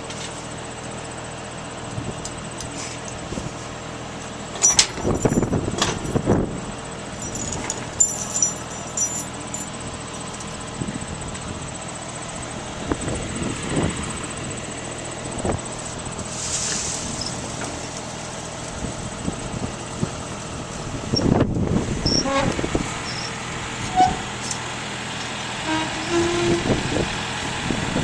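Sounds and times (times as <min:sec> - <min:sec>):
farm machinery engine running: 0:00.0 - 0:28.0.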